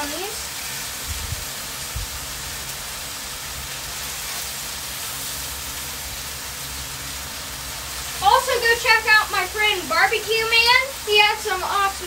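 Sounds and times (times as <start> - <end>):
cutlets sizzling on griddle: 0.0 - 12.0.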